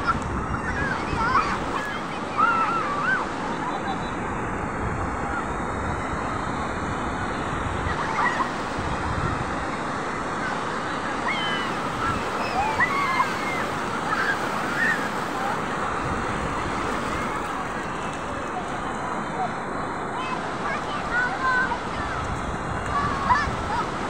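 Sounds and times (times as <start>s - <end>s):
surf breaking on beach: 0.0s - 24.0s.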